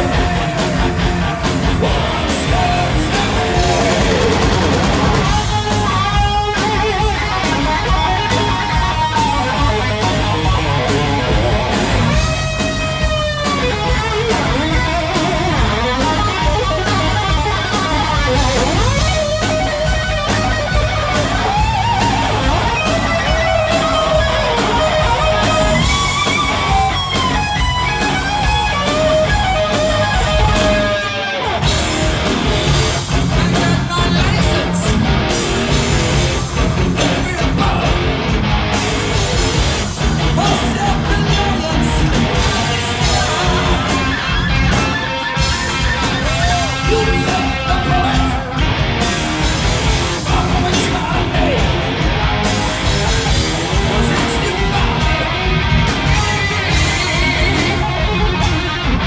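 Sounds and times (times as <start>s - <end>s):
lead electric guitar with string bends: 0.0s - 59.0s
live heavy metal band: 0.0s - 59.0s.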